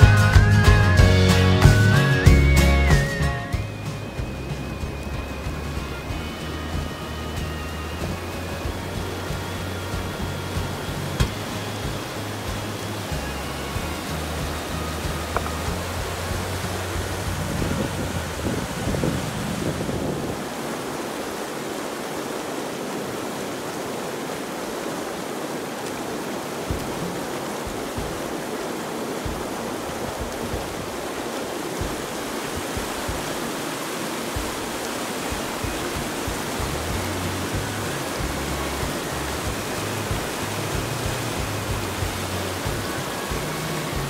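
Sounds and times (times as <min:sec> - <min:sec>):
river rushing over boulders: 0:00.0 - 0:44.0.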